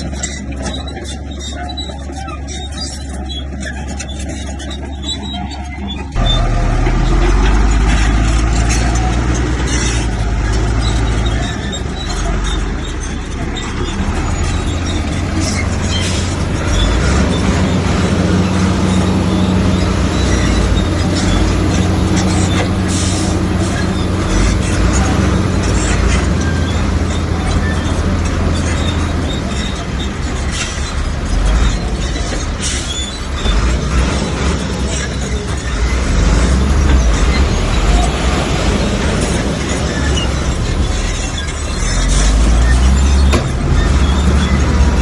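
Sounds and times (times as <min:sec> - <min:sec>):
diesel machinery running: 0:00.0 - 0:45.0
metal clanks and scraping: 0:00.0 - 0:45.0.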